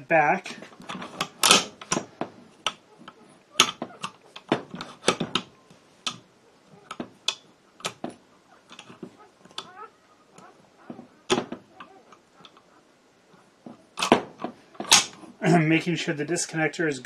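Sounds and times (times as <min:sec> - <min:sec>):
rifle parts clicking metallically: 0:00.8 - 0:15.3.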